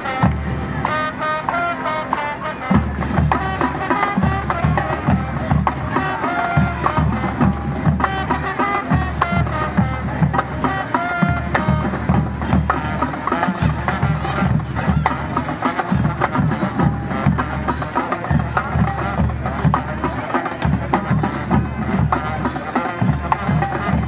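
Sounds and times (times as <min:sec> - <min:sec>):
marching band brass: 0:00.0 - 0:24.0.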